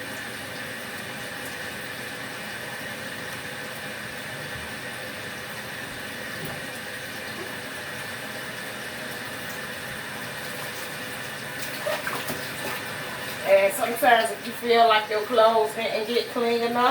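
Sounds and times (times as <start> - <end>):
washing machine motor humming: 0.0 - 16.9.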